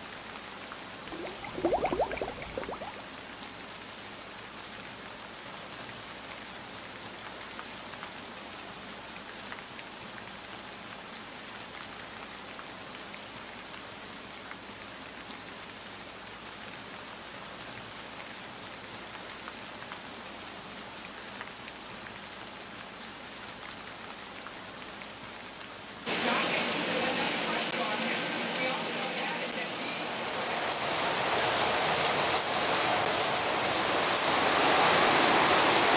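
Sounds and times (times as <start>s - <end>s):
rain falling on wet street: 0.0s - 1.0s, 3.1s - 35.9s.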